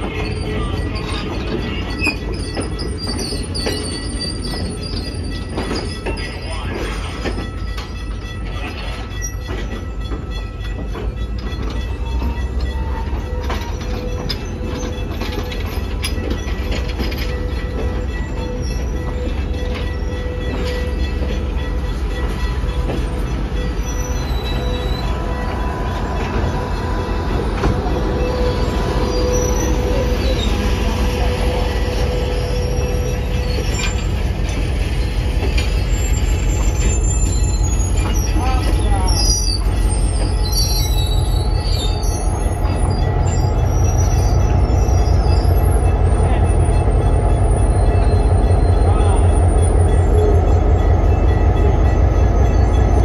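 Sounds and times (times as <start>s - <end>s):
thin squeal from train wheels: 0.0s - 53.0s
train wheels rolling on rails: 0.0s - 53.0s.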